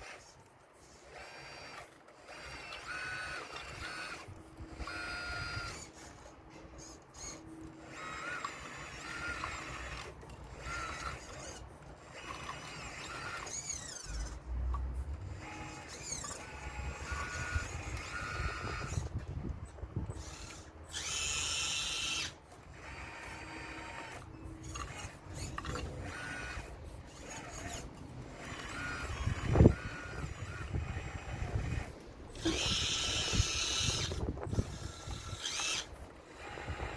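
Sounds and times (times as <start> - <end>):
hydraulic pump whining: 0.0 - 36.9.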